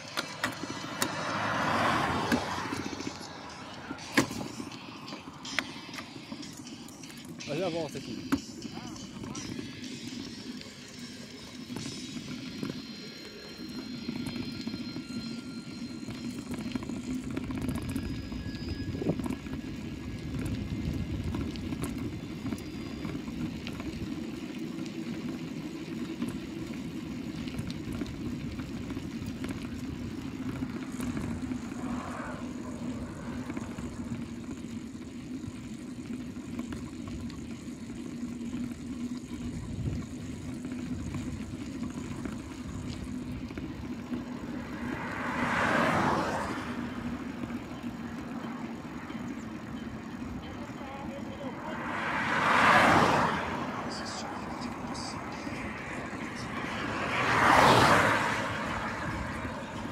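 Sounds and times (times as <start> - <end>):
bicycle tyres on asphalt: 0.0 - 59.9
wind: 0.0 - 59.9.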